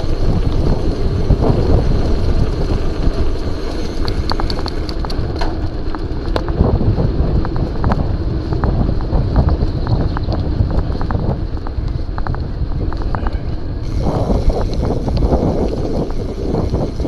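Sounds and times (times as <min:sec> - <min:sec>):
bike tyre rumble on tarmac: 0:00.0 - 0:17.0
wind buffeting microphone: 0:00.0 - 0:17.0.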